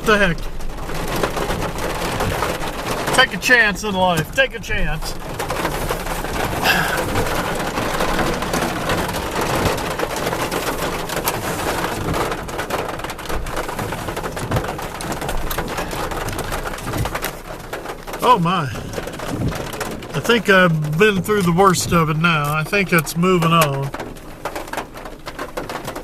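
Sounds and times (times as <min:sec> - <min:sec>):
heavy rain on car roof: 0:00.0 - 0:26.0.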